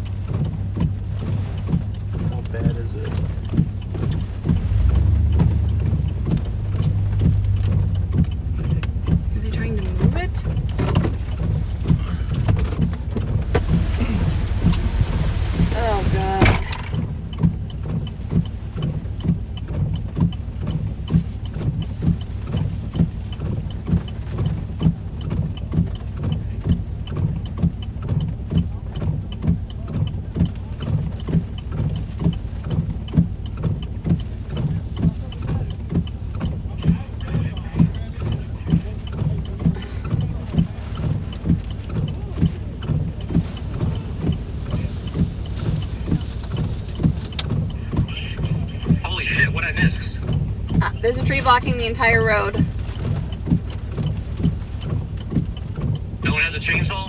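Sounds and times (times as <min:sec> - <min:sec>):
light ticking: 0:00.0 - 0:15.0, 0:16.6 - 0:57.0
low rumble: 0:00.0 - 0:57.0
rain on car: 0:00.0 - 0:57.0
windshield wipers sweeping: 0:00.0 - 0:57.0.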